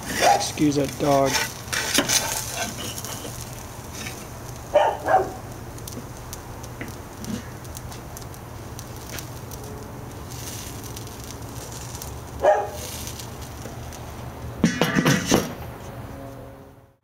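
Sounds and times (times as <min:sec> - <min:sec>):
fine crackling: 0:00.0 - 0:14.6
sandwich sizzling on a griddle: 0:00.0 - 0:15.6.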